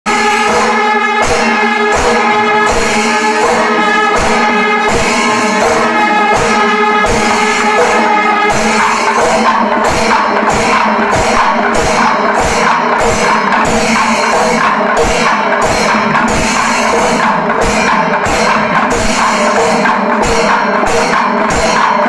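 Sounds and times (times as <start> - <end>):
horns long held notes: 0.1 - 20.4
cymbals clashing: 0.1 - 22.0
drums striking steady beat: 0.1 - 22.0.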